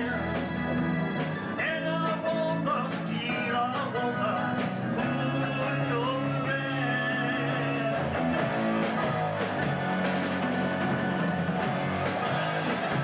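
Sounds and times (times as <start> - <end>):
guitar-led rock music: 0.0 - 13.0.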